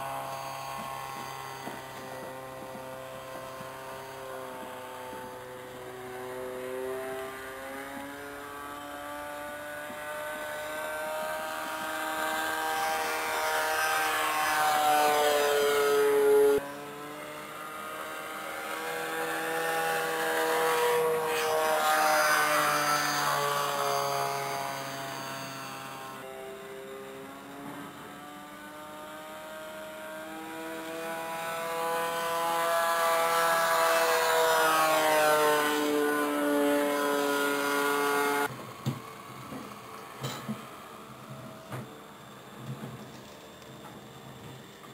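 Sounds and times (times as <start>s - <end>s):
model airplane motor and propeller: 0.0s - 44.9s.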